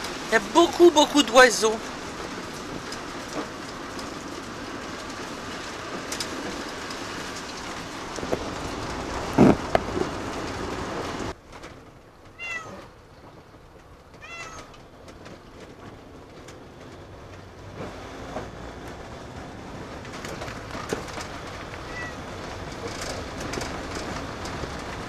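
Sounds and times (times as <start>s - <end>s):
road and engine noise inside van: 0.0s - 25.0s.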